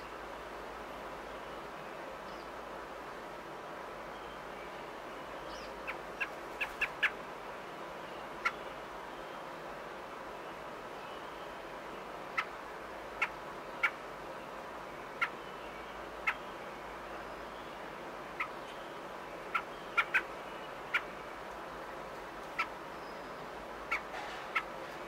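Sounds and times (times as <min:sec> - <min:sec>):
faint hiss: 0:00.0 - 0:25.0.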